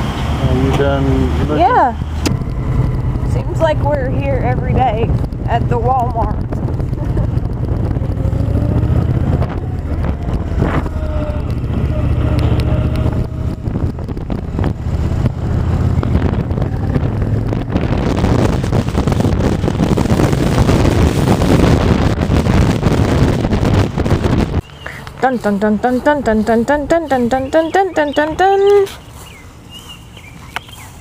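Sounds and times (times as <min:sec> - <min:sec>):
wind rushing over microphone: 0:00.0 - 0:28.9
motorcycle engine rumbling: 0:00.0 - 0:31.0.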